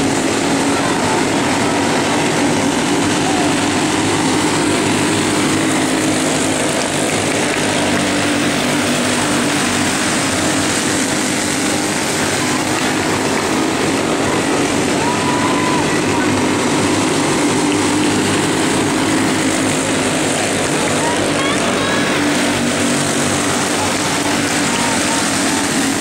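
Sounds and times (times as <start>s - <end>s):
racing kart engines droning: 0.0s - 26.0s.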